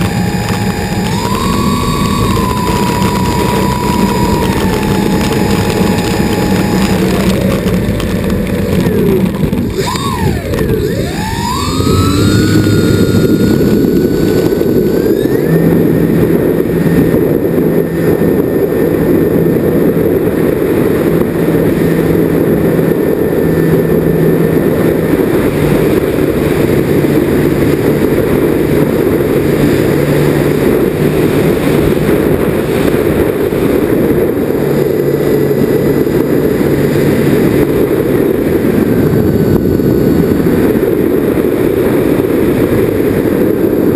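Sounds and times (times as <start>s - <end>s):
model plane motors whining: 0.0s - 43.9s.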